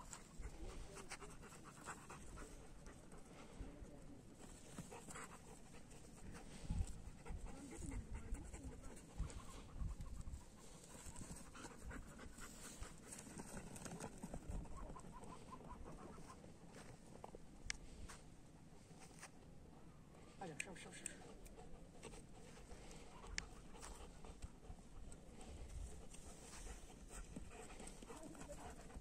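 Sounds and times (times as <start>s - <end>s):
dogs panting: 0.0s - 18.0s, 21.0s - 29.0s.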